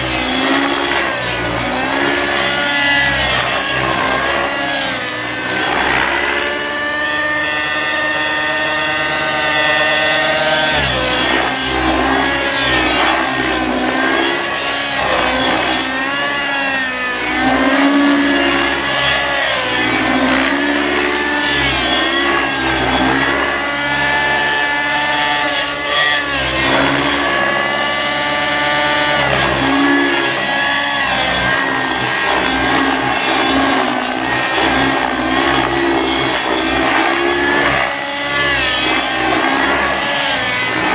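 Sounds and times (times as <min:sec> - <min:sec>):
rc helicopter engine whine: 0:00.0 - 0:40.9.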